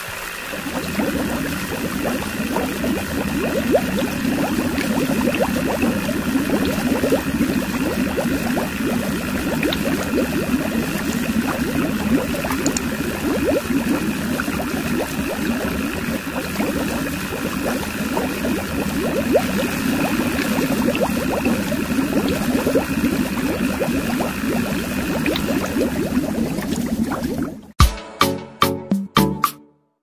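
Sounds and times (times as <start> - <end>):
electric water pump hum: 0.0 - 27.8
water splashing into tank: 0.0 - 27.8.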